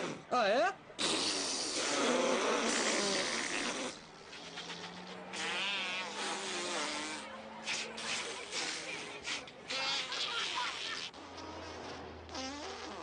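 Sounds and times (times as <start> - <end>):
fart noises blown into hand: 0.0 - 0.3, 1.0 - 13.0.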